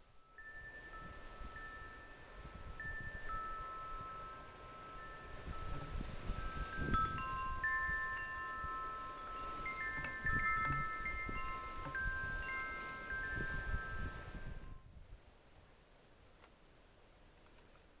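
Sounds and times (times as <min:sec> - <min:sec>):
wind chimes ringing: 0:00.0 - 0:14.8.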